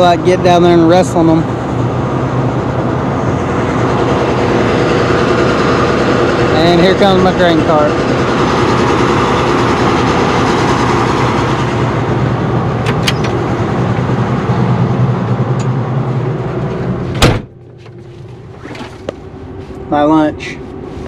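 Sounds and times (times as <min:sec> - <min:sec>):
combine harvester humming: 0:00.0 - 0:21.0.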